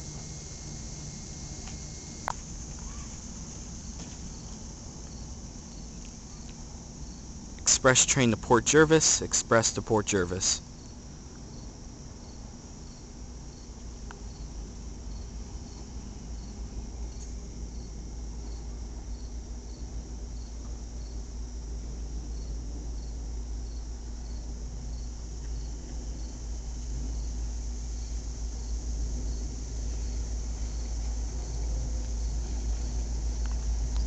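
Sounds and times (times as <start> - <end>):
crickets chirping: 0.0 - 34.0
high insect hum: 0.0 - 34.0.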